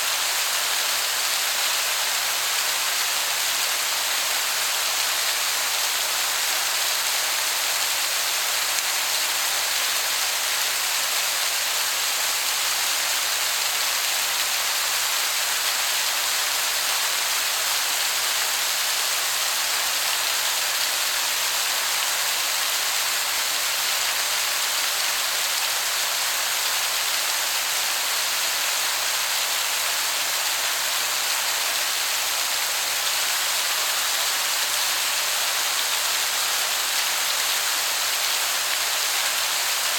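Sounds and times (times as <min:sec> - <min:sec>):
distant waterfall hiss: 0:00.0 - 0:39.9.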